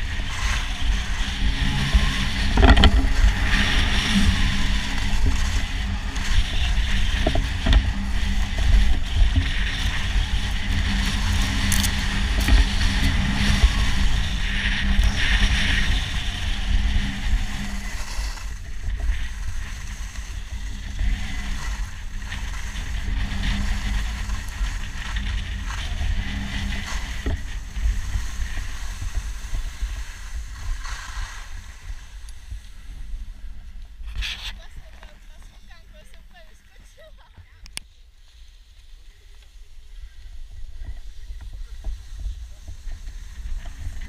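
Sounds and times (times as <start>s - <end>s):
skis scraping over snow: 0.0s - 44.0s
wind rumble on microphone: 0.0s - 44.0s.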